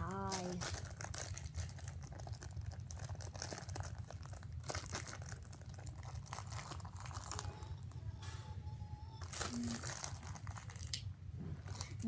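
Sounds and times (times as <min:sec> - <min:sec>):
plastic bag crinkling: 0:00.0 - 0:07.9, 0:09.1 - 0:11.0, 0:11.6 - 0:12.0.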